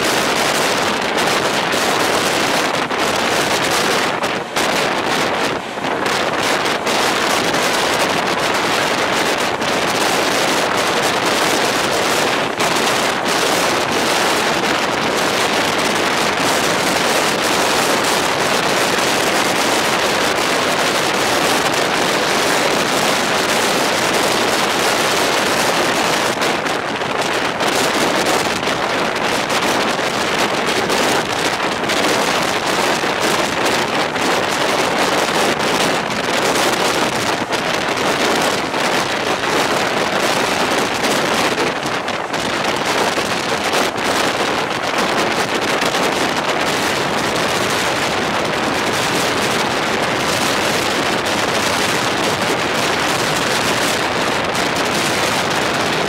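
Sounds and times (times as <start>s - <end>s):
train running noise: 0.0s - 56.0s
wind buffeting microphone: 0.0s - 56.0s.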